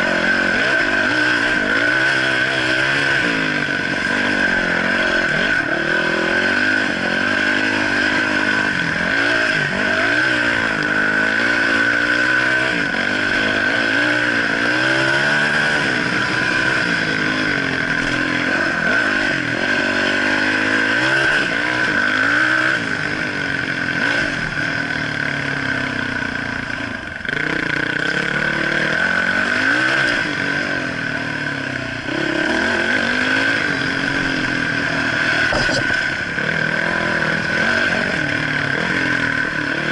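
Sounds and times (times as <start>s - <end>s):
motorcycle engine revving: 0.0s - 39.9s
steady high whine: 0.0s - 39.9s.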